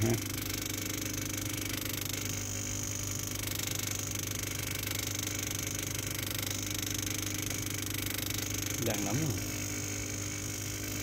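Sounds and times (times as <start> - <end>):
water pump buzzing: 0.0 - 11.0.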